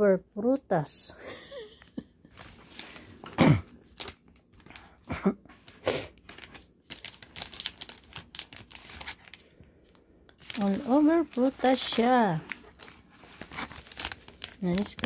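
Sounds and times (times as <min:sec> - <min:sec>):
plastic wrapping crinkling: 0:02.2 - 0:15.0.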